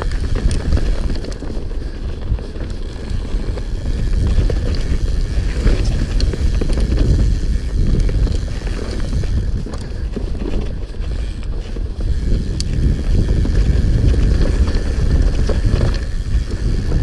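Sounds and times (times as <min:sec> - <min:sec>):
bike clicks and rattles: 0:00.0 - 0:17.0
bike tyres rumbling on dirt trail: 0:00.0 - 0:17.0
wind buffeting microphone: 0:00.0 - 0:17.0.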